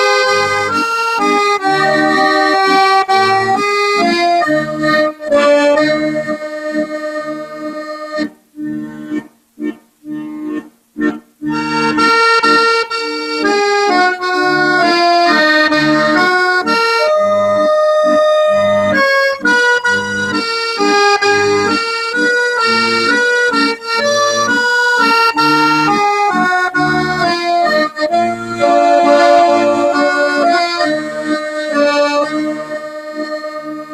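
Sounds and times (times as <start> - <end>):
instrumental melody: 0.0 - 33.9.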